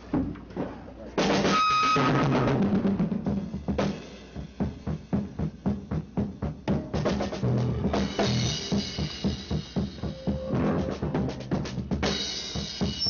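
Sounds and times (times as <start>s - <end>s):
drum kit playing a quick beat: 1.2s - 13.0s.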